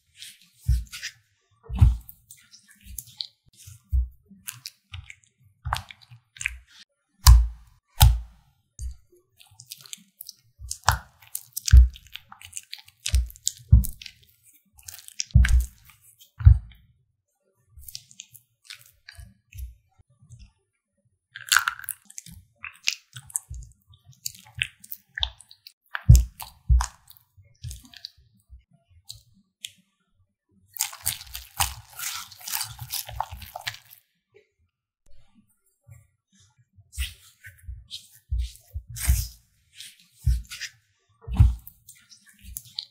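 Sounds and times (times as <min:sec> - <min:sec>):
wet squishing: 0:00.0 - 0:16.8, 0:17.8 - 0:19.7, 0:21.4 - 0:28.2, 0:30.8 - 0:34.0, 0:36.9 - 0:42.9.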